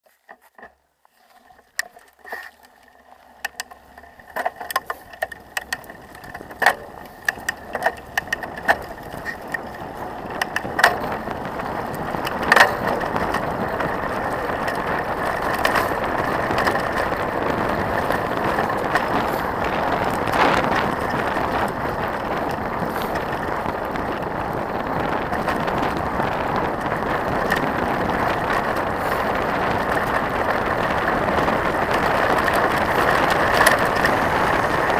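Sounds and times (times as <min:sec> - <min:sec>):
bike clicks and knocks: 0:00.1 - 0:00.8, 0:01.5 - 0:34.9
tyres rushing on gravel: 0:04.2 - 0:34.9
wind noise: 0:04.3 - 0:34.9.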